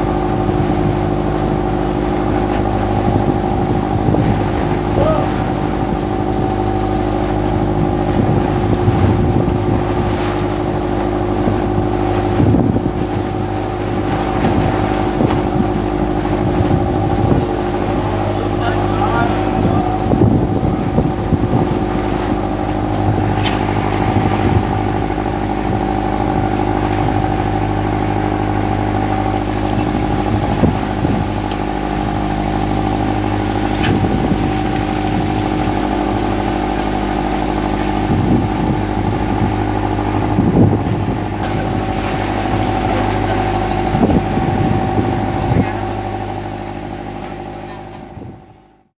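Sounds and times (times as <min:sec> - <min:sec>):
boat engine running: 0:00.0 - 0:48.9.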